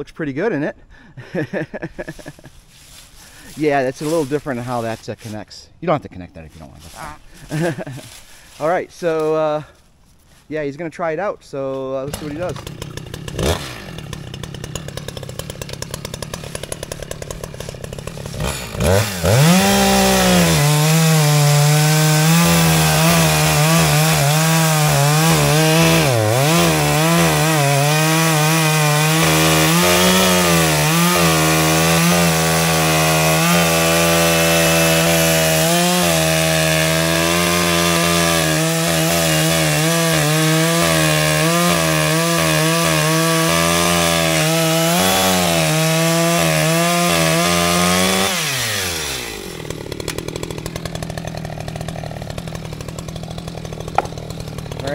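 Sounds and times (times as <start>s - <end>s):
chainsaw cutting into stump: 1.9s - 5.0s, 7.3s - 9.3s, 12.0s - 54.9s.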